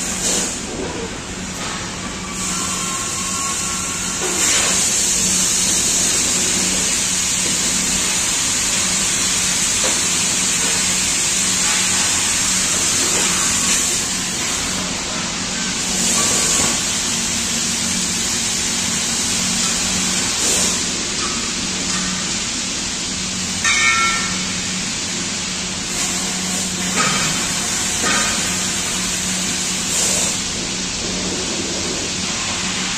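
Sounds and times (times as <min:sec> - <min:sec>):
machinery hiss: 0:00.0 - 0:32.9.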